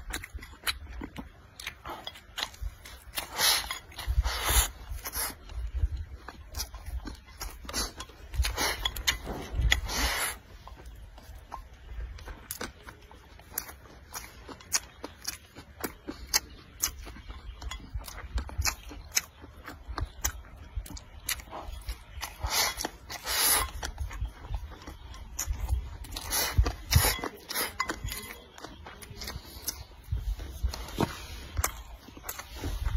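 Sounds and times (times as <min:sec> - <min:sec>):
chewing with wet mouth clicks: 0:00.0 - 0:32.9.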